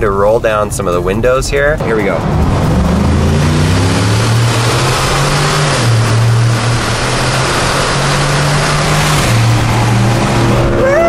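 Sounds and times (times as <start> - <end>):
car engine in tunnel: 1.2 - 11.0.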